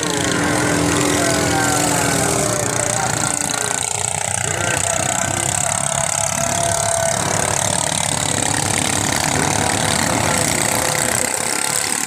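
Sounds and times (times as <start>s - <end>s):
boat engines buzzing: 0.0s - 12.0s.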